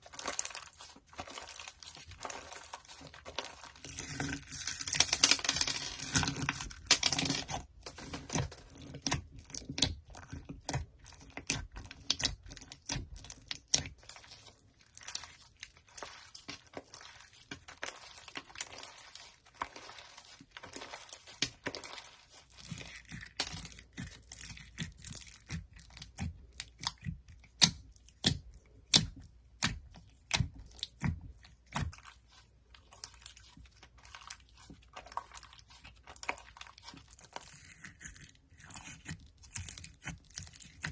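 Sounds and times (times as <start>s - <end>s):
slime popping and crackling: 0.0s - 40.9s.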